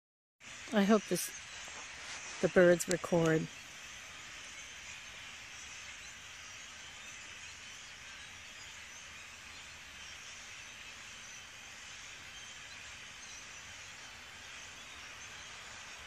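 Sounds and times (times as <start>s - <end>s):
flock of starlings chattering: 0.4s - 16.0s.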